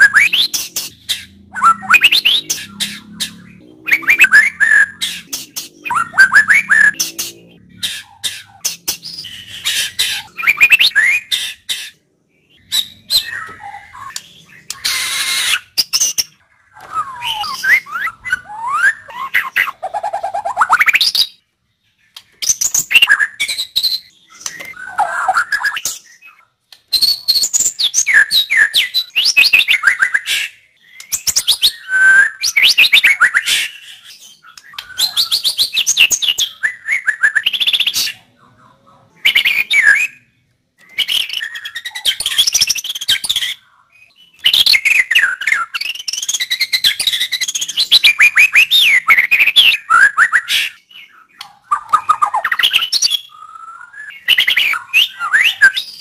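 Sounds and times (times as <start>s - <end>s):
bird singing whistles and chatters: 0.0s - 21.4s, 22.4s - 56.0s.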